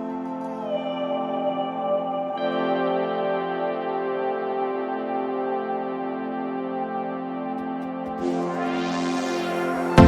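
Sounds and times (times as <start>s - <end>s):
ambient synth chords: 0.0s - 10.0s.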